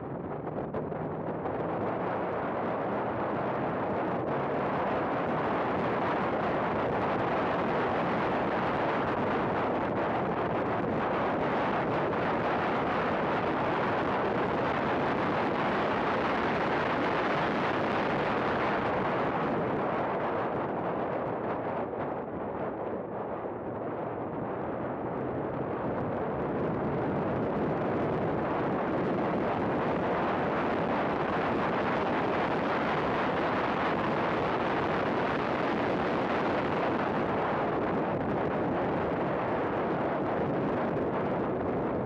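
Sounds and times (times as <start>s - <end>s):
heavy wind rush: 0.0s - 42.0s.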